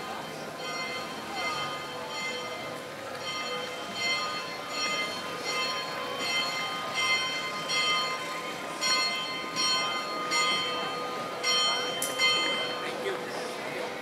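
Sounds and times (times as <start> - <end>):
church bells ringing: 0.0 - 13.4
crowd hubbub: 0.0 - 14.0.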